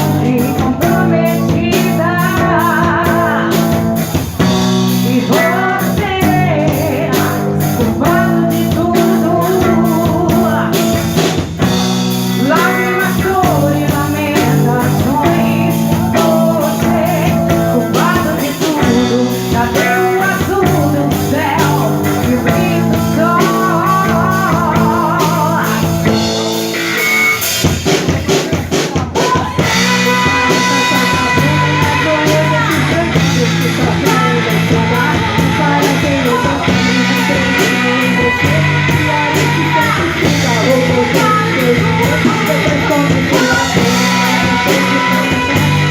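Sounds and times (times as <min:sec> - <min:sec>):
bass guitar: 0:00.0 - 0:45.9
drum kit: 0:00.0 - 0:45.9
electric guitar: 0:00.0 - 0:45.9
person singing: 0:00.0 - 0:45.9.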